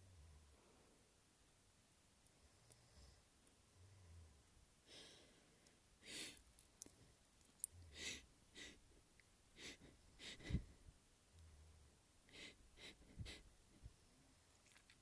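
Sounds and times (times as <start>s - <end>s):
faint breathy breaths: 0.0s - 1.2s, 2.3s - 7.2s, 7.8s - 10.9s, 11.5s - 14.4s.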